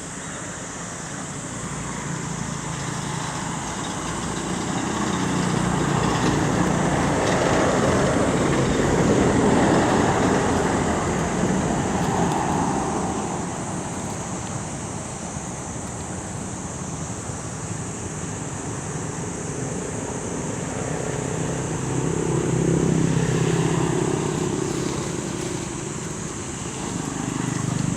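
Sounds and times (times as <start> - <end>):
outdoor background noise: 0.0 - 27.9
vehicle engine: 0.0 - 27.9.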